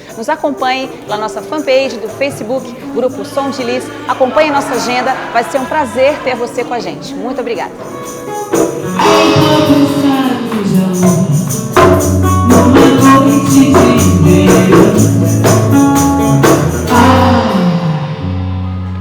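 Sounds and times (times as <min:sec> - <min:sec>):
band music with percussion beat: 0:00.0 - 0:18.4.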